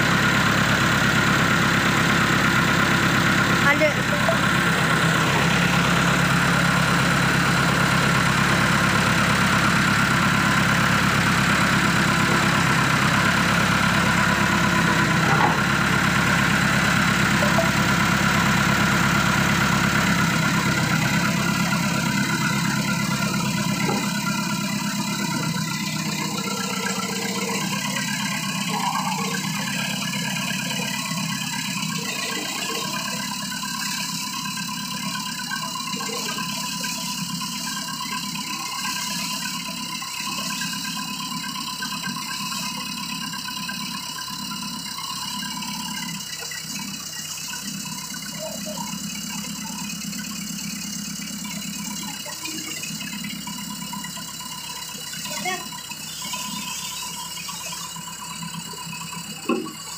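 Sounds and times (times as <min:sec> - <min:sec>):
backhoe engine running: 0:00.0 - 0:59.9.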